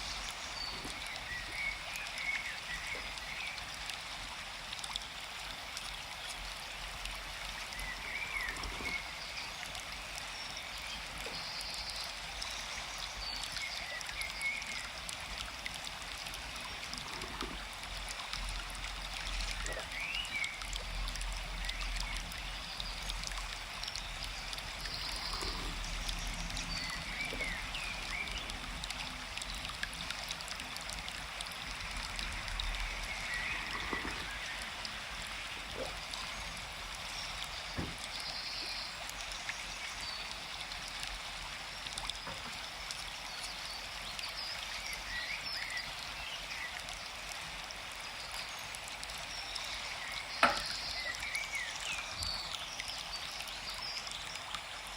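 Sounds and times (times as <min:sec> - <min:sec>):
forest stream running: 0:00.0 - 0:54.9.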